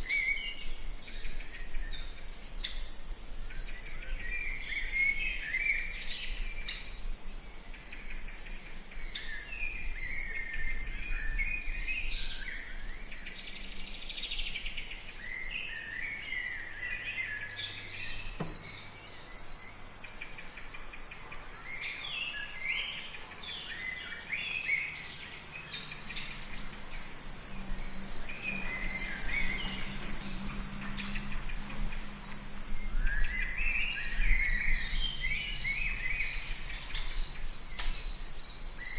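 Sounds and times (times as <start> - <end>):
birds calling and chirping: 0.0 - 38.9
insect pulsing call: 0.0 - 38.9.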